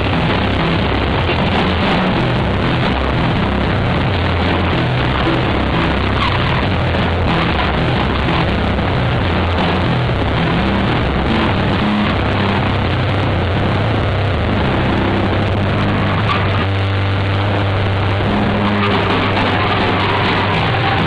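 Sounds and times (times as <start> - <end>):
electric bass low notes: 0.0 - 21.0
rock band playing live: 0.0 - 21.0.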